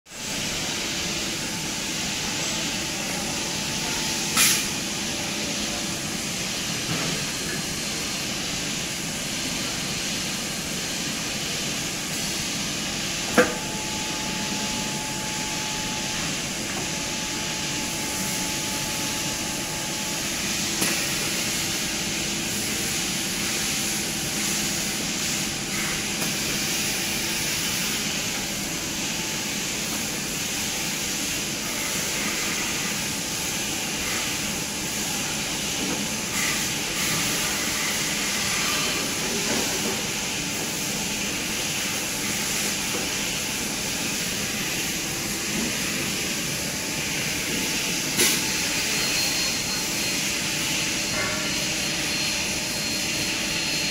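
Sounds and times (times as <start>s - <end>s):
factory floor hiss: 0.1s - 53.9s.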